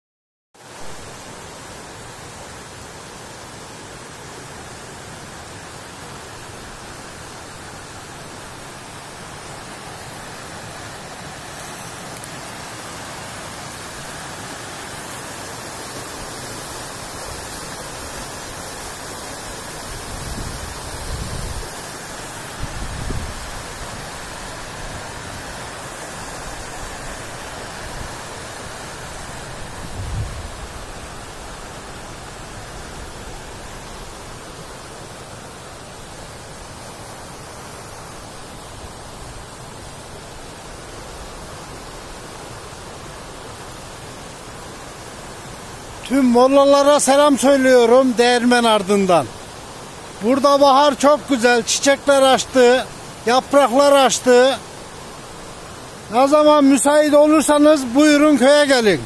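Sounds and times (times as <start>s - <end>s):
stream rushing over rocks: 0.6s - 59.0s.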